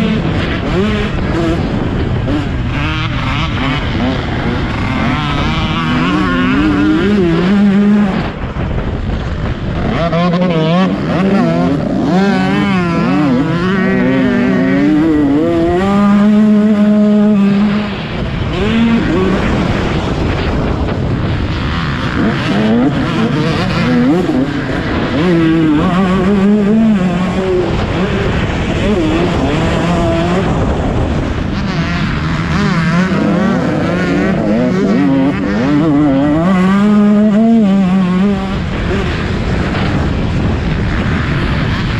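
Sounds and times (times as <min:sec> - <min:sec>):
motocross bike engines revving: 0:00.0 - 0:41.9.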